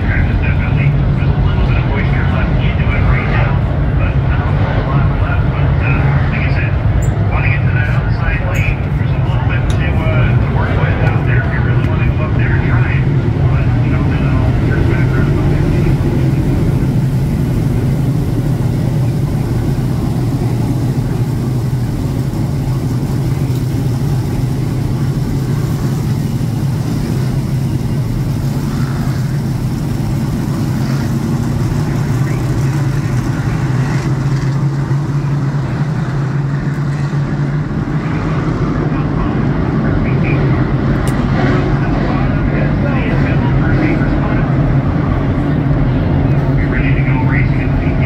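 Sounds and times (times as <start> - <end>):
race car engines droning: 0.0 - 48.0.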